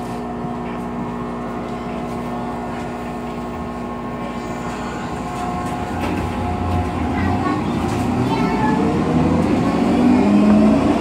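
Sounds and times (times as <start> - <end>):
train car rumble: 0.0 - 11.0
train traction motor whining: 0.6 - 11.0.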